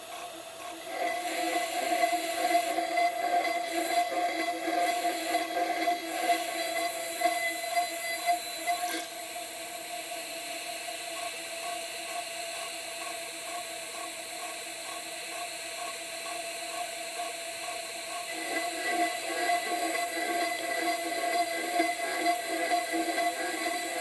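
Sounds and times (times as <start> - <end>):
end mill cutting metal: 0.0 - 24.0
router spindle whine: 0.0 - 24.0.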